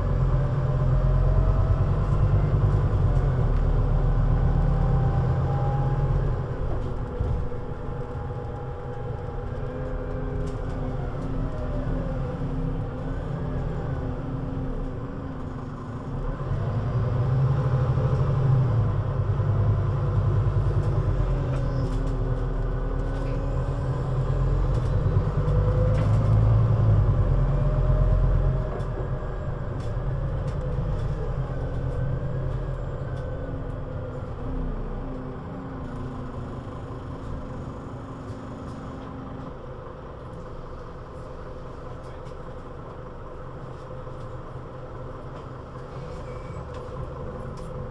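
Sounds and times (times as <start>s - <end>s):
city bus engine running: 0.0s - 47.9s.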